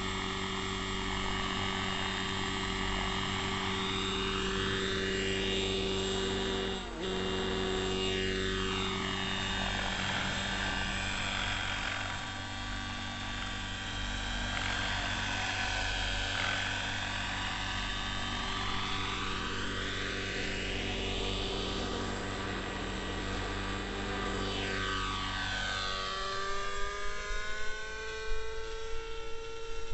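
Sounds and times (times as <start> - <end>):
rc helicopter engine and rotors: 0.0 - 29.9.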